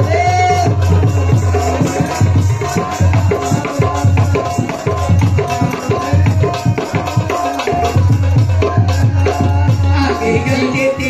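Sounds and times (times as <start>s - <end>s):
tabla strokes: 0.0s - 11.0s.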